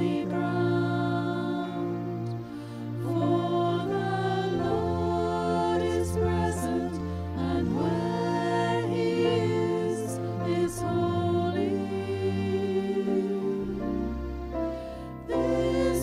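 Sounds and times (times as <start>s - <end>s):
slow music with held chords: 0.0s - 16.0s.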